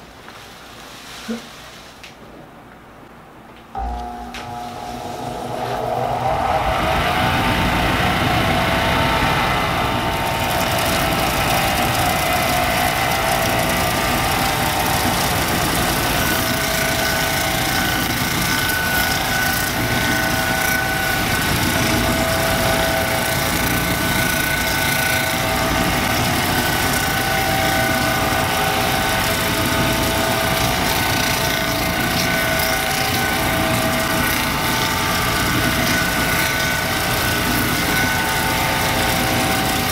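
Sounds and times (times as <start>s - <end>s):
electric motor whining: 3.8s - 39.9s.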